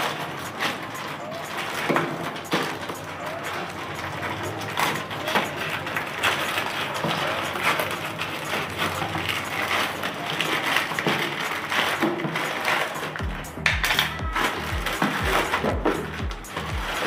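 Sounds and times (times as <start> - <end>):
plastic bag crinkling and tearing: 0.0 - 17.0.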